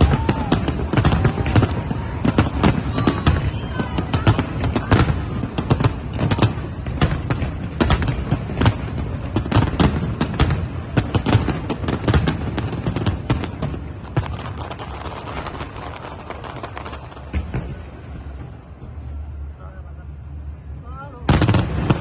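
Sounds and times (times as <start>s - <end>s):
fireworks bangs: 0.0s - 20.5s, 21.1s - 22.0s.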